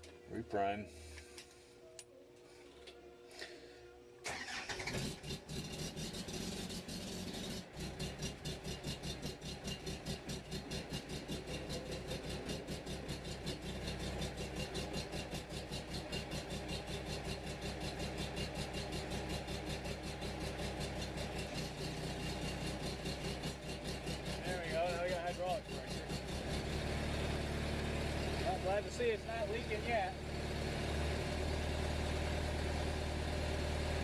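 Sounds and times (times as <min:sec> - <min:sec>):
loader engine idling: 0:06.1 - 0:34.0.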